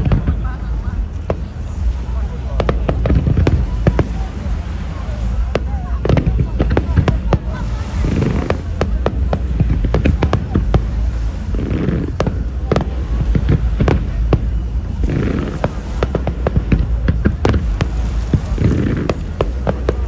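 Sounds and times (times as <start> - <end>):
fireworks bursting and crackling: 0.0 - 20.0
low rumble: 0.0 - 20.0
murmur of crowd: 0.0 - 20.0.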